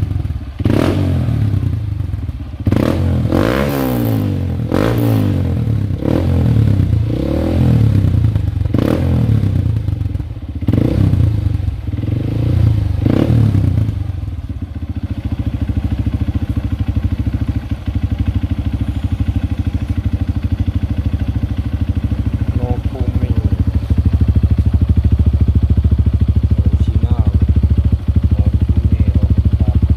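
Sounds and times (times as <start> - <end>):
motorcycle engine revving and idling: 0.0 - 29.9.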